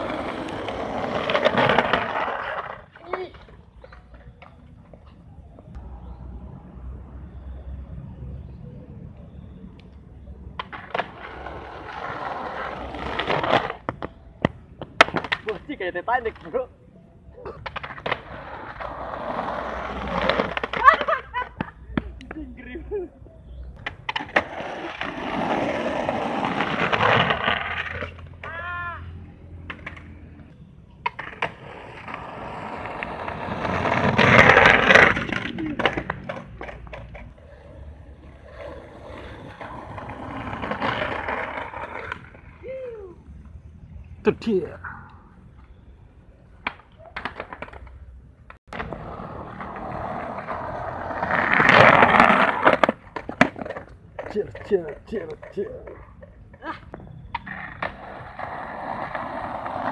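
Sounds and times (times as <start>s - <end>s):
skateboard clacking on road: 0.0s - 5.8s, 10.5s - 16.7s, 17.6s - 22.5s, 23.7s - 28.9s, 29.6s - 42.6s, 46.5s - 59.9s
skateboard wheels rolling on asphalt: 0.0s - 59.9s.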